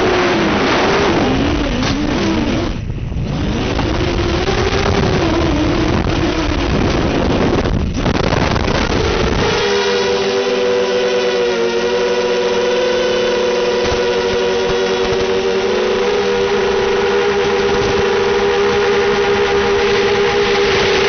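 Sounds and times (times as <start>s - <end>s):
drone motors and propellers whining: 0.0s - 21.0s
noisy rush: 0.0s - 21.0s.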